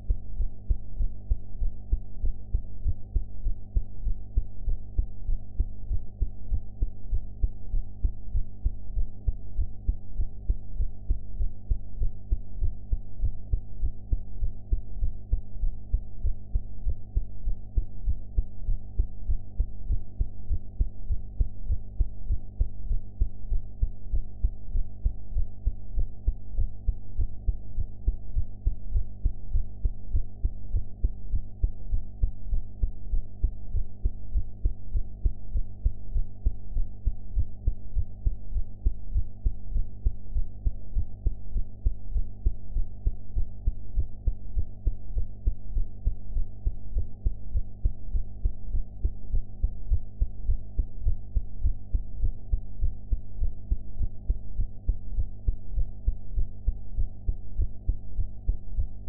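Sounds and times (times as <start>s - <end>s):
heartbeat thuds: 7.4s - 59.0s.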